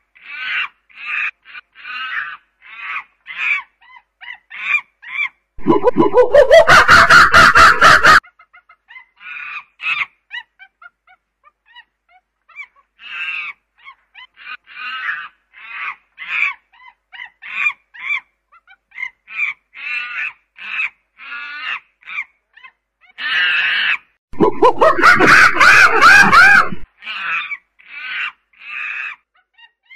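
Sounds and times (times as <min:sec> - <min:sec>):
monkey calls: 0:00.2 - 0:29.9.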